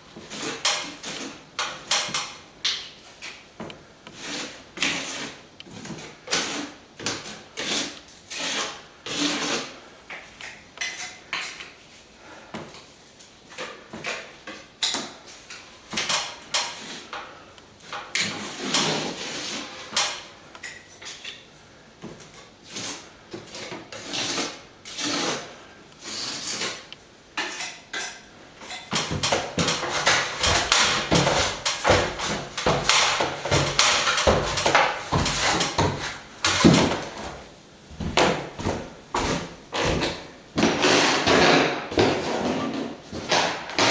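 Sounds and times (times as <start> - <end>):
plastering tools scraping wall: 0.0 - 2.4, 4.1 - 11.6, 13.5 - 20.4, 22.3 - 43.9.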